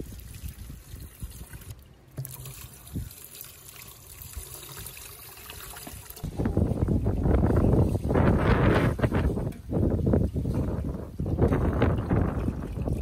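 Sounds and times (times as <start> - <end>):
brine trickling through strainer: 0.0 - 13.0.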